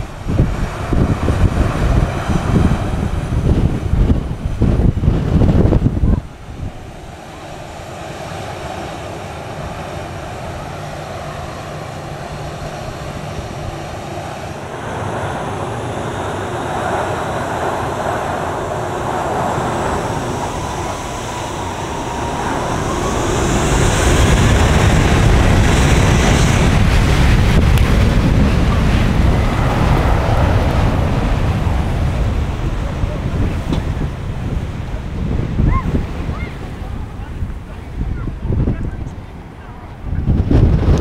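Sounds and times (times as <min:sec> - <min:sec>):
turbine whine rising in pitch: 0:00.0 - 0:34.2
jet engines rushing: 0:00.0 - 0:41.0.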